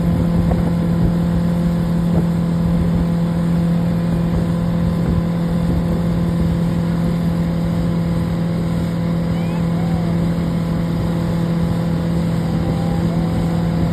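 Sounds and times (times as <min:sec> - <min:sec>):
motorboat engine running: 0:00.0 - 0:13.9
rush of wind and water: 0:00.0 - 0:13.9.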